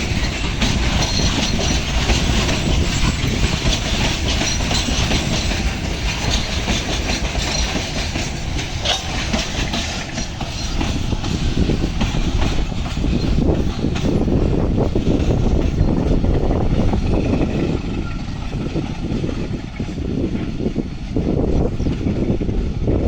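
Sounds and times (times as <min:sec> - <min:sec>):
wheels clicking over rail joints: 0:00.0 - 0:22.3
freight train rumbling: 0:00.0 - 0:23.0.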